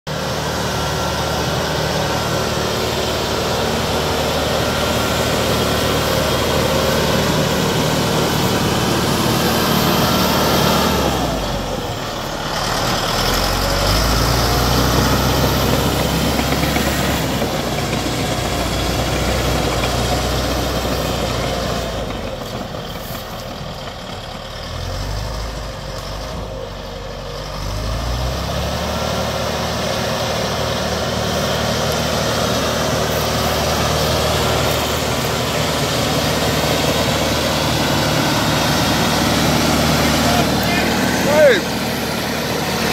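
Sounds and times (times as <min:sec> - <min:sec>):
bulldozer diesel engine running: 0:00.1 - 0:42.9.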